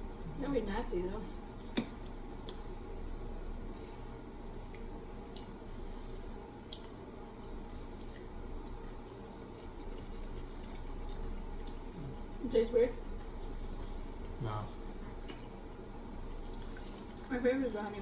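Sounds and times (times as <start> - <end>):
chewing with wet smacks: 0.2 - 18.0.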